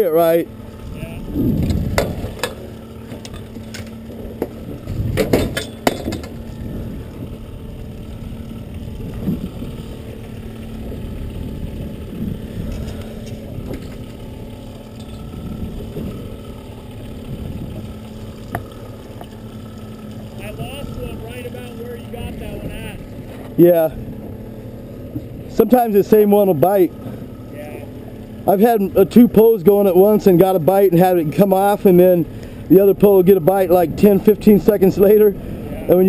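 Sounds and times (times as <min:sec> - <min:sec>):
boat motor idling: 0:00.0 - 0:36.0.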